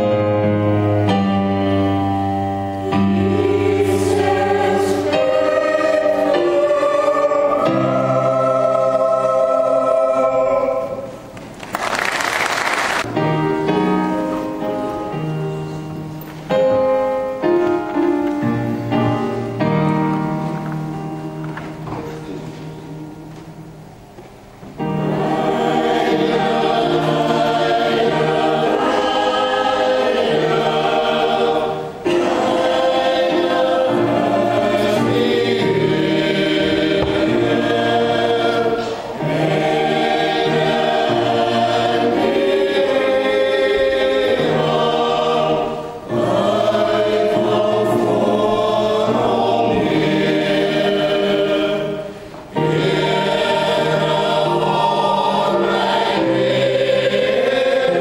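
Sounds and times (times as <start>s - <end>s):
church choir singing in parts: 0.0s - 23.0s, 24.7s - 58.0s.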